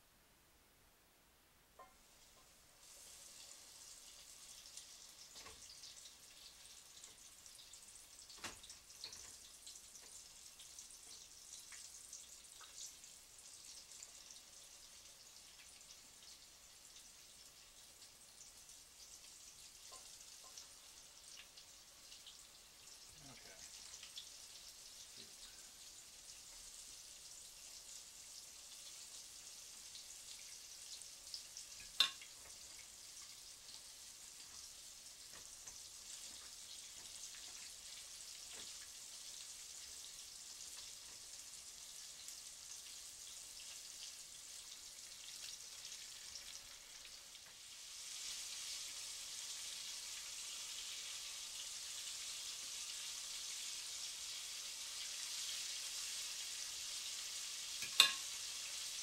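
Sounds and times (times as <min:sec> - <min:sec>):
food sizzling in hot oil: 0:01.8 - 0:59.0.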